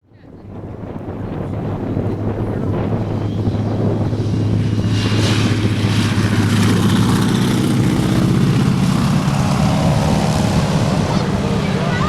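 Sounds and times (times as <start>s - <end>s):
biplane radial engine and propeller: 0.0s - 12.0s.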